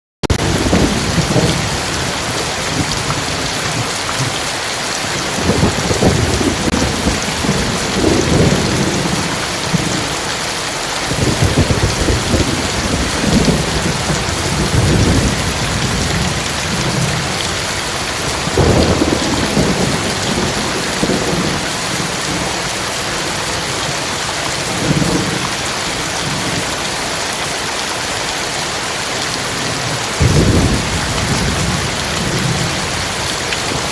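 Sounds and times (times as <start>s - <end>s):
thunder rumbling: 0.2s - 26.8s, 29.4s - 33.9s
heavy rain hissing: 0.3s - 33.9s.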